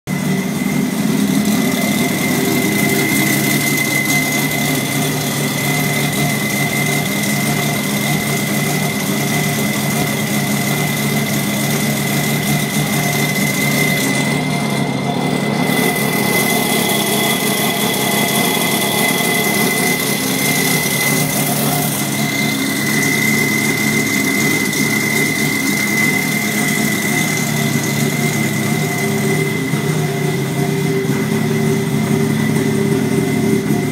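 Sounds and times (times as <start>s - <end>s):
race car engine idling: 0.0s - 33.9s
high-pitched whine: 0.1s - 33.9s.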